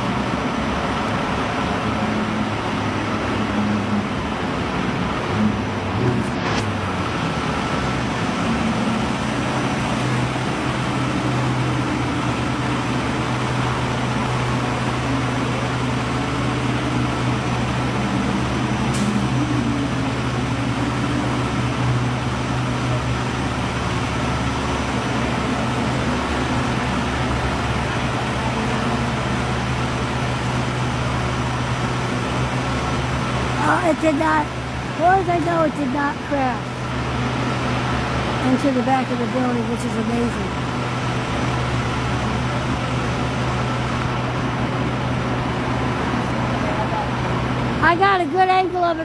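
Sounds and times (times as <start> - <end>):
large vehicle engine running: 0.0 - 49.0
street traffic: 0.0 - 49.0.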